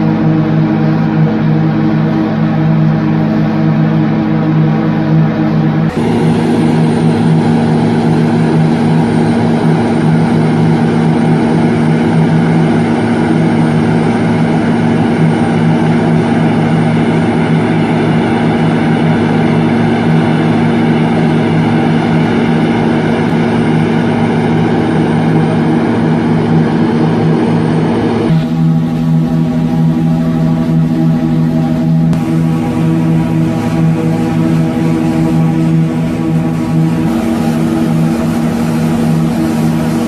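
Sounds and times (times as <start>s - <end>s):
concrete paver machine drone: 0.0s - 40.0s.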